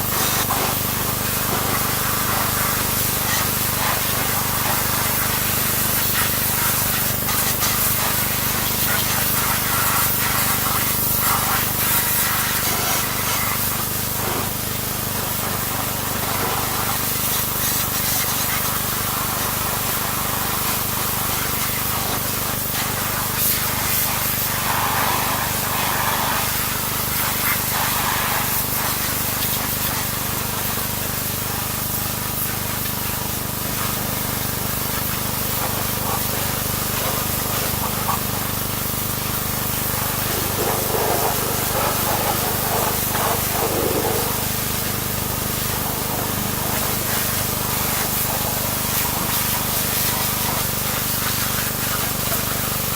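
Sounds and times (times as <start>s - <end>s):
pressure washer spraying: 0.0s - 52.9s.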